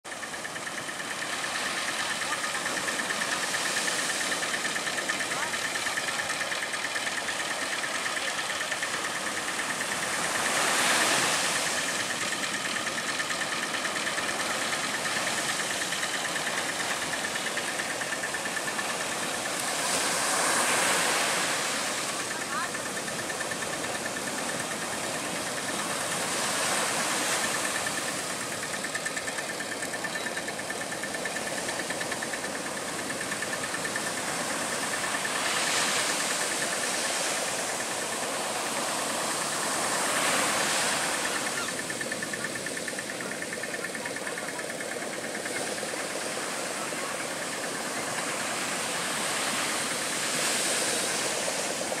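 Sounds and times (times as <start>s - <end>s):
outboard motor running: 0.0s - 52.0s
surf hissing: 0.0s - 52.0s
waves breaking over boat: 0.0s - 52.0s.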